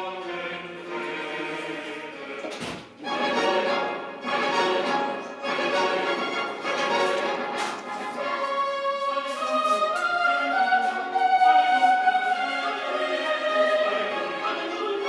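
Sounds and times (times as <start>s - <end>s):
slow orchestral music: 0.0s - 15.0s.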